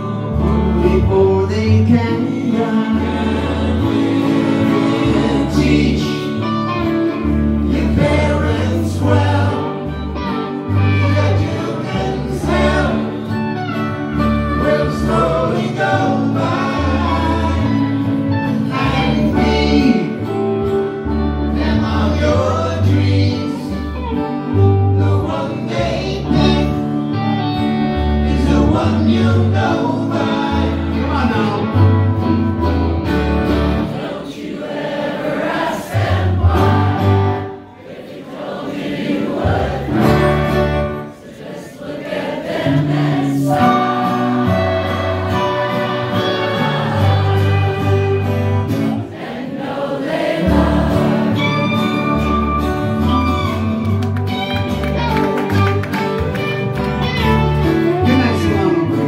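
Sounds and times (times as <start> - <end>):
voices singing together: 0.0 - 27.2, 28.0 - 31.8, 33.6 - 52.6
live folk-rock band: 0.0 - 41.4, 42.1 - 59.0.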